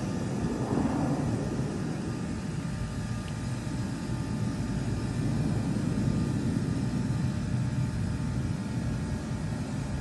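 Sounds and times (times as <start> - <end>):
distant jet aircraft rumble: 0.0 - 10.0.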